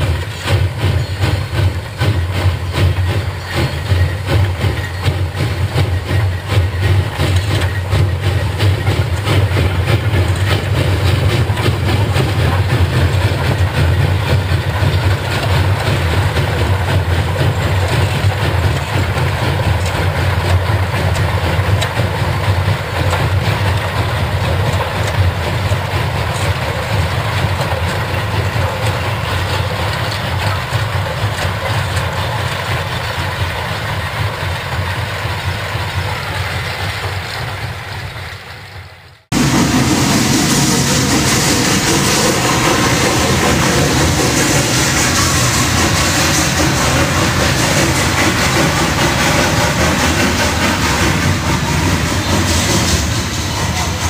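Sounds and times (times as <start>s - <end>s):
rail noise: 0.0s - 54.0s
steam locomotive exhaust: 0.0s - 54.0s.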